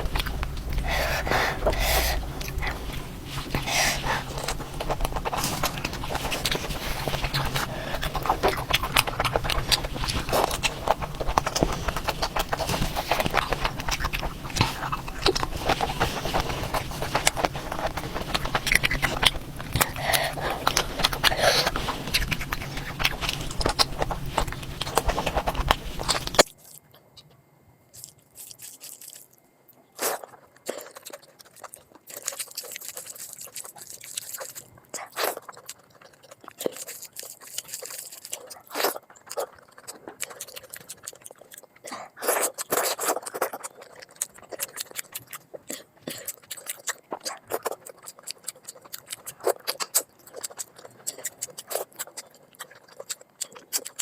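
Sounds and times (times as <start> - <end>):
chewing and mouth smacks: 0.0 - 54.0.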